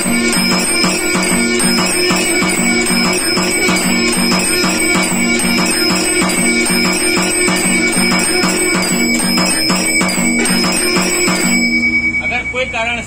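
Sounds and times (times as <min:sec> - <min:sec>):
beaters striking drum: 0:00.0 - 0:12.7
brass bell ringing: 0:00.0 - 0:13.0
recorded conch sound: 0:00.0 - 0:13.0.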